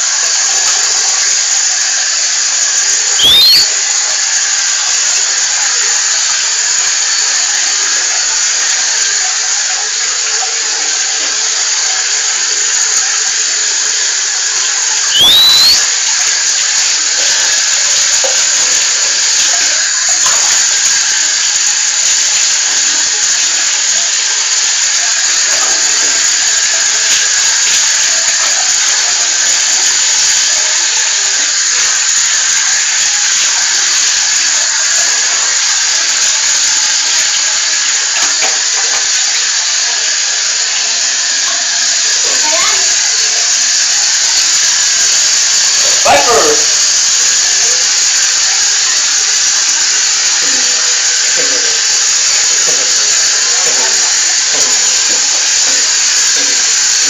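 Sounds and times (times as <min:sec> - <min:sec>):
running water hissing: 0:00.0 - 0:57.0.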